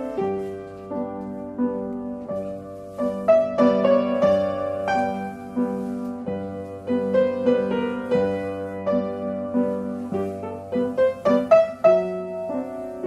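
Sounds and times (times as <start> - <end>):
piano ballet class accompaniment: 0.0 - 13.0.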